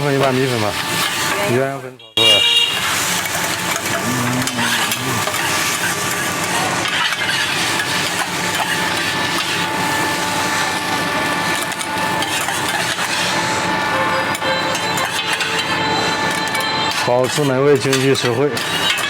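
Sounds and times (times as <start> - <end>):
noodles sizzling on griddle: 0.0 - 19.0
spatulas scraping metal plate: 2.6 - 19.0.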